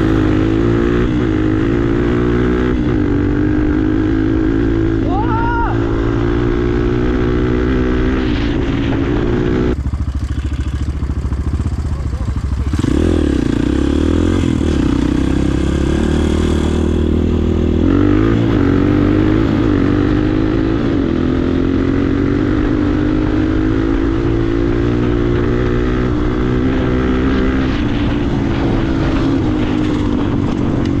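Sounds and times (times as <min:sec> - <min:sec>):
motorcycle engines accelerating: 0:00.0 - 0:31.0.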